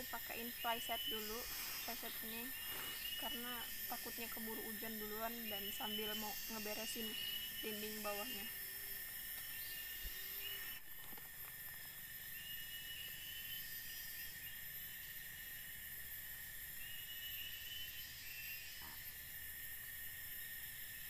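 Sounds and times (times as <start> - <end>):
insects droning: 0.0 - 21.0
short insect call: 0.0 - 21.0.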